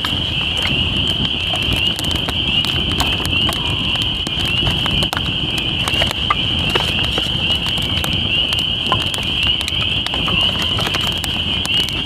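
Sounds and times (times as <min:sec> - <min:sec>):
campfire crackling and popping: 0:00.0 - 0:12.0
frogs calling: 0:00.2 - 0:12.0.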